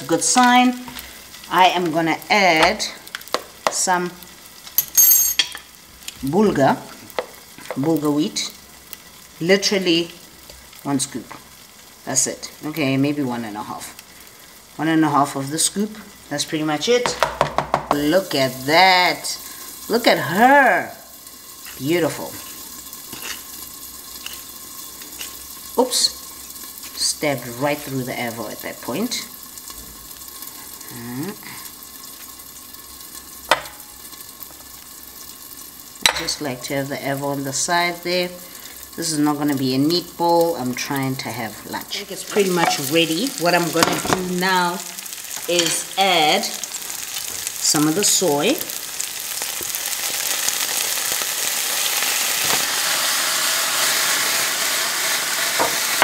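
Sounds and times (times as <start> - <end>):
tofu sizzling in hot oil: 0.0 - 56.0.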